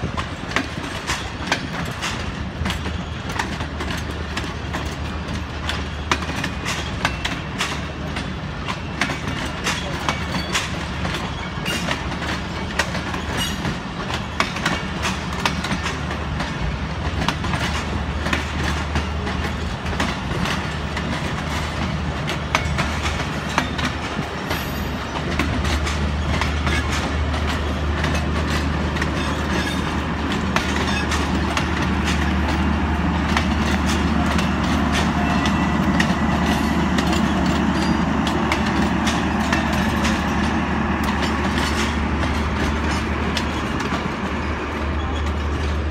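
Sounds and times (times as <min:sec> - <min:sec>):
train coaches rumbling: 0:00.0 - 0:45.9
wheel clicks over rail joints: 0:00.0 - 0:45.9.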